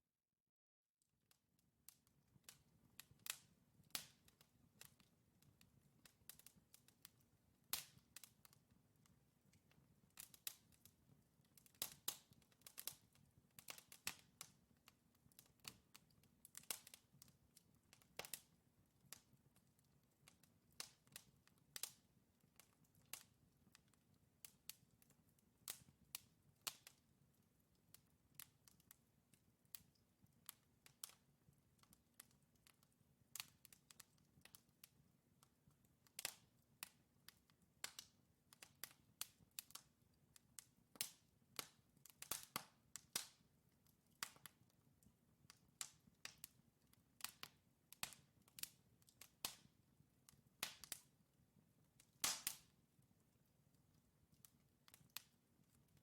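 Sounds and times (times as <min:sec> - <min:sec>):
wood fire crackling: 0:01.9 - 0:56.0.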